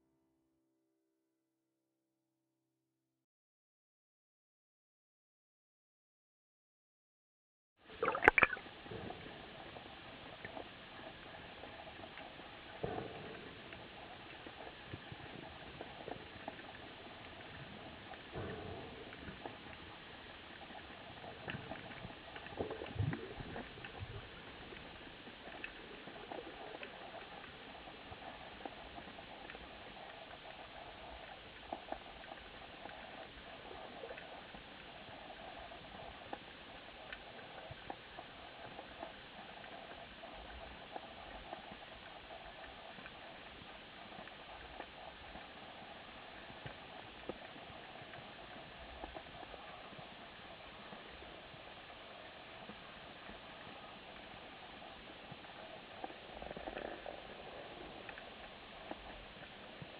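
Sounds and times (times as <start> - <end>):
muffled underwater hiss: 7.9 - 59.9
small crackling clicks: 9.8 - 59.9.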